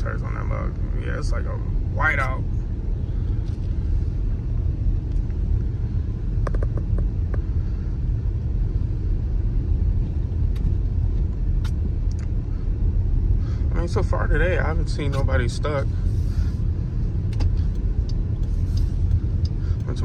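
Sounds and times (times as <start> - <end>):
engine and tyres rumbling in car: 0.0 - 20.0.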